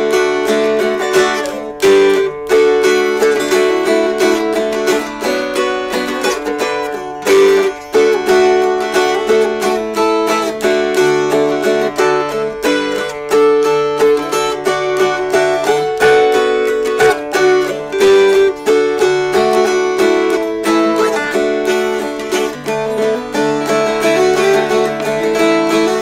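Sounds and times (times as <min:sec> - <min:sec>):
mountain dulcimers strummed: 0:00.0 - 0:26.0.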